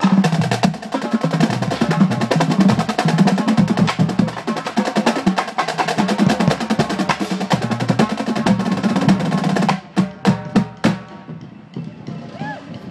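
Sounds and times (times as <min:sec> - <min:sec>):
marching drumline playing: 0:00.0 - 0:12.9.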